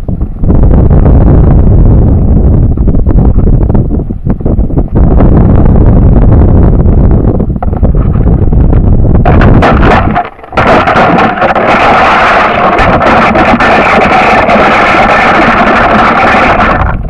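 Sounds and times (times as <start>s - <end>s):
wind roaring over microphone: 0.0s - 17.0s.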